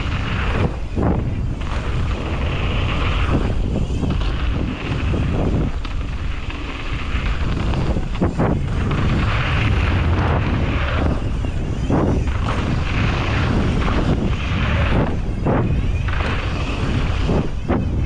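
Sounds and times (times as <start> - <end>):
bike rattling: 0.0 - 18.0
wind rushing over microphone: 0.0 - 18.0.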